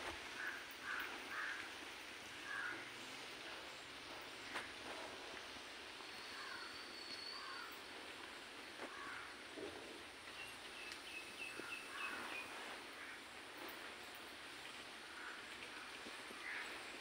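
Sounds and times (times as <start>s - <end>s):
steady outdoor hiss: 0.0s - 17.0s
birds calling: 0.3s - 14.1s, 15.0s - 17.0s.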